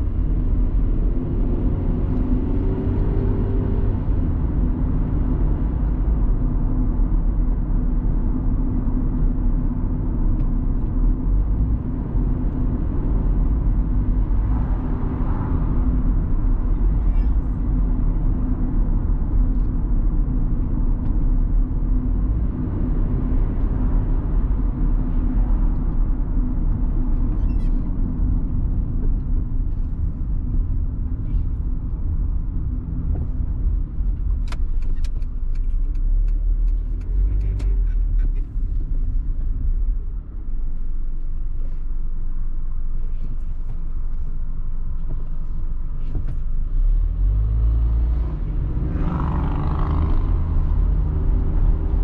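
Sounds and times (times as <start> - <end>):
engine and road noise rumble: 0.0 - 52.0.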